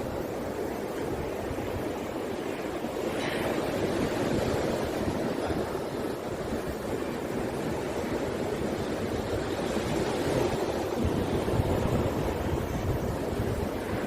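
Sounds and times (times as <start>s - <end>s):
waves surging and breaking: 0.0s - 14.0s
wind buffeting microphone: 0.0s - 14.0s.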